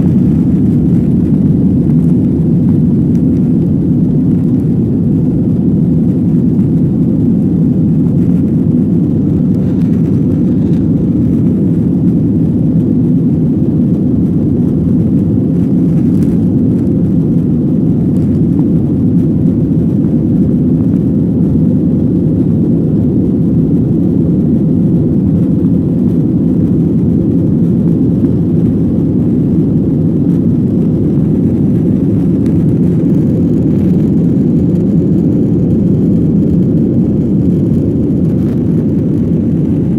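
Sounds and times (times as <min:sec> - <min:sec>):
jet engines roaring: 0:00.0 - 0:39.9
rushing air: 0:00.0 - 0:39.9.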